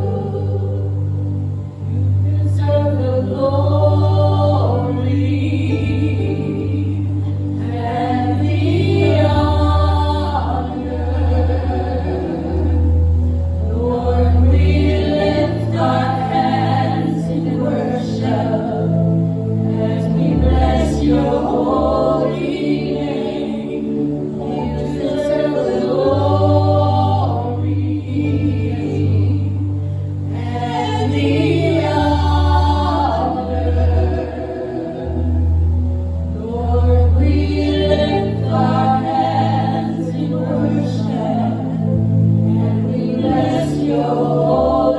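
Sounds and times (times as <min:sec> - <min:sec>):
low bass accompaniment: 0:00.0 - 0:44.9
voices singing gospel: 0:00.0 - 0:44.9.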